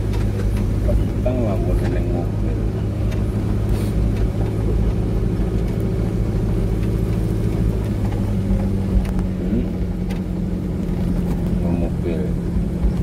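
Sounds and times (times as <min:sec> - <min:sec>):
pickup truck engine drone: 0:00.0 - 0:13.0.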